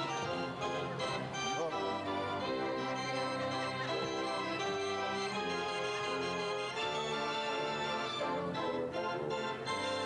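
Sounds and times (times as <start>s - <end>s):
carousel organ playing a tune: 0.0s - 10.0s.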